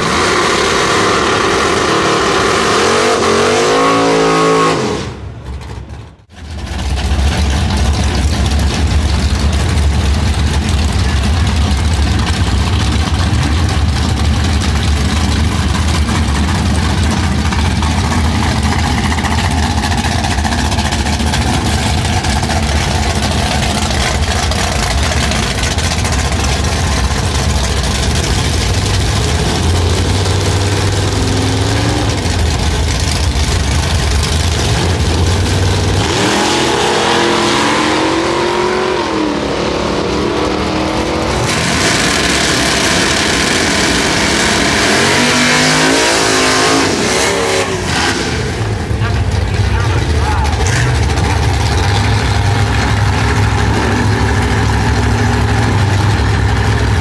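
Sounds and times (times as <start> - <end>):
drag car engines rumbling: 0.0 - 57.0
engines revving: 0.0 - 57.0.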